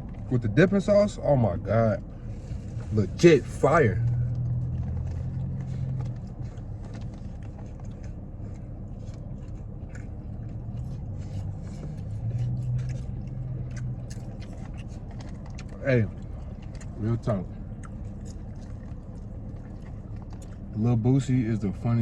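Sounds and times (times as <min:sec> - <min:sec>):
low steady hum: 0:00.0 - 0:22.0
person chewing fried pastry: 0:02.0 - 0:22.0.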